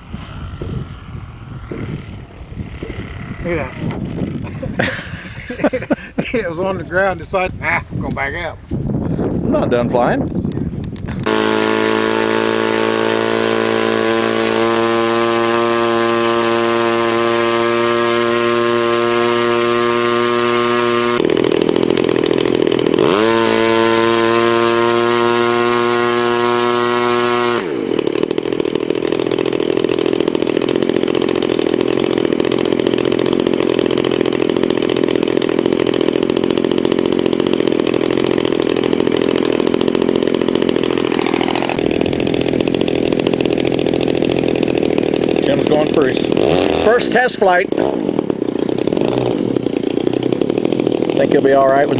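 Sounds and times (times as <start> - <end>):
motor running hum: 0.0 - 6.3, 10.4 - 51.9.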